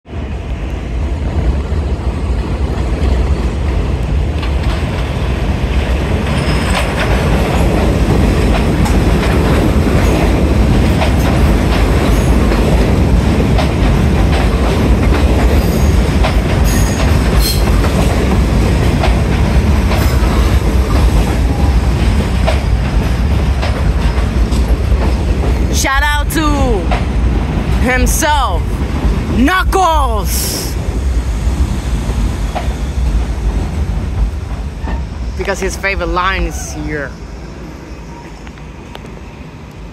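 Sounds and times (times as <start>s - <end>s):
subway train wheels rumbling: 0.0s - 39.9s.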